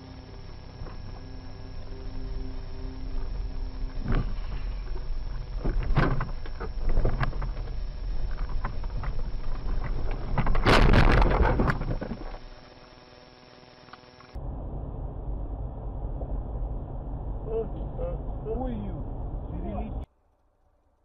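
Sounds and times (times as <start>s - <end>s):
road and wind rumble: 0.0s - 20.1s.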